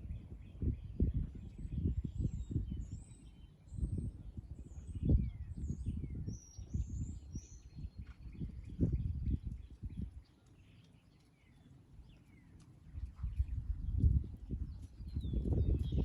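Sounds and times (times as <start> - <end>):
birds chirping and whistling: 0.0 - 12.6, 13.2 - 16.0.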